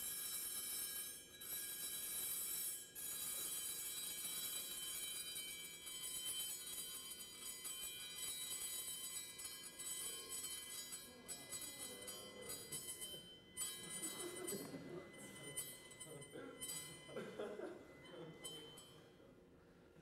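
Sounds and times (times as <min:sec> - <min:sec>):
metal plate ringing with high tones: 0:00.0 - 0:19.3.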